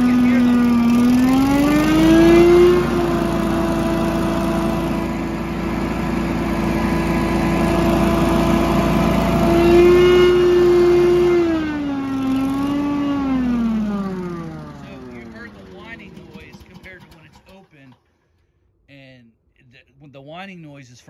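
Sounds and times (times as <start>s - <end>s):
leaf blower whining: 0.0s - 18.0s.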